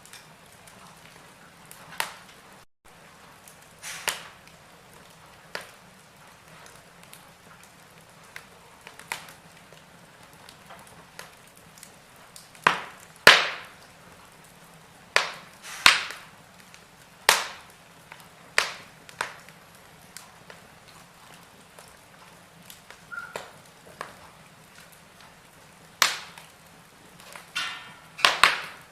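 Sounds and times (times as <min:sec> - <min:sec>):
faint steady hiss: 0:00.0 - 0:28.9
wood fire crackling and popping: 0:00.0 - 0:28.9.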